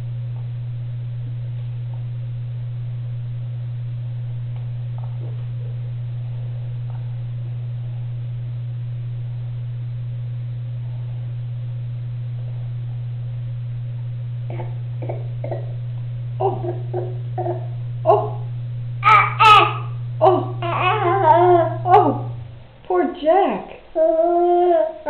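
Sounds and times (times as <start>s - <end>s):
loud steady low hum: 0.0s - 25.0s.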